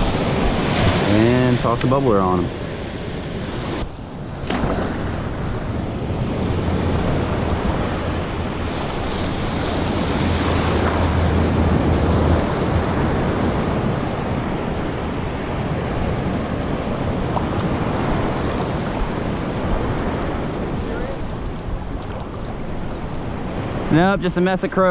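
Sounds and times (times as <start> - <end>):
ocean surf washing: 0.0 - 24.9
wind rumbling on microphone: 0.0 - 24.9.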